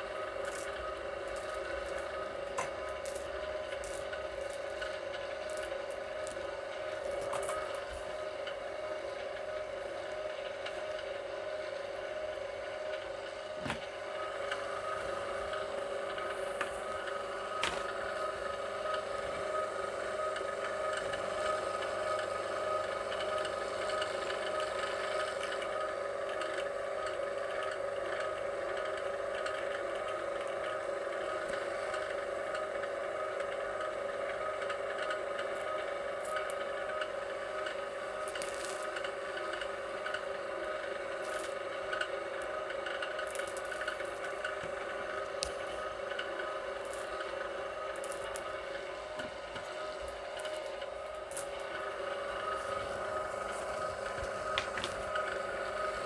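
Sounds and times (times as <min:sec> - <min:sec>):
wire stripper motor humming: 0:00.0 - 0:56.0.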